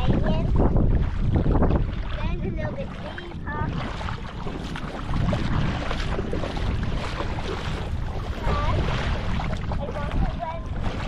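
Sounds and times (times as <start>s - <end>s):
shallow water sloshing: 0.0s - 11.0s
wind buffeting microphone: 0.0s - 11.0s.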